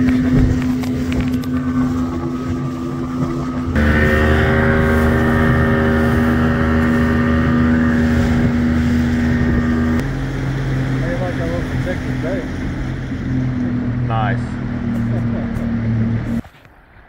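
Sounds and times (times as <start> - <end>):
boat motor running: 0.0 - 16.4.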